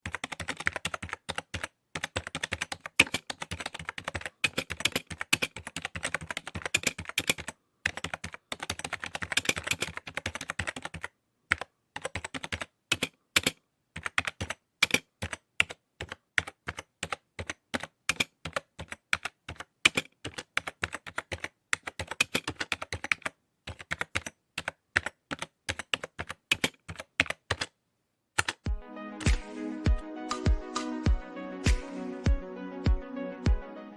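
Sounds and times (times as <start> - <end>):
typing on a keyboard: 0.0 - 27.8, 28.4 - 28.6.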